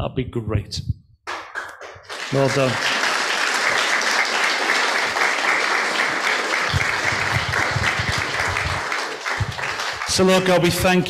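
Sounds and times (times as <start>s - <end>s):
crowd applauding: 1.3s - 11.0s.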